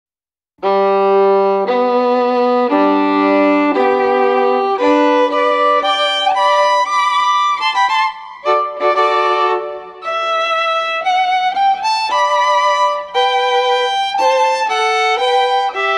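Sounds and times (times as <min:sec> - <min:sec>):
violin music: 0:00.6 - 0:15.9.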